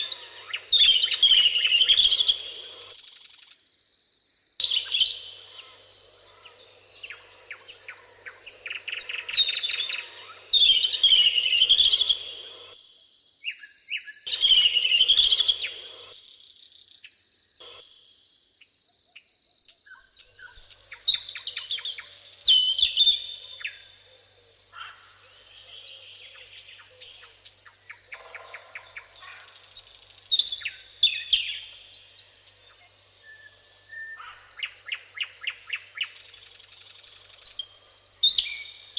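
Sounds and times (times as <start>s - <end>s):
songbirds singing: 0.0s - 3.7s, 4.6s - 38.9s.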